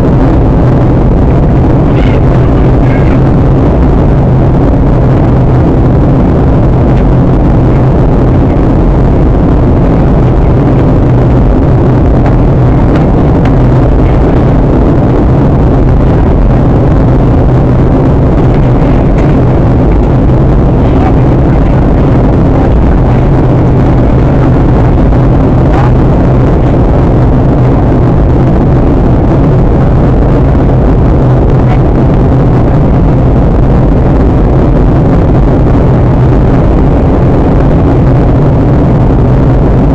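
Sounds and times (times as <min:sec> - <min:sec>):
jet engines droning: 0:00.0 - 0:39.9
low cabin hum: 0:00.0 - 0:39.9.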